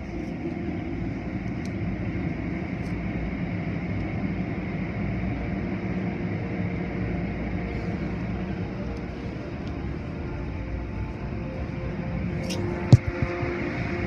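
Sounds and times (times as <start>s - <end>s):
car wash water spray and machinery: 0.0s - 14.0s
low hum: 0.0s - 14.0s.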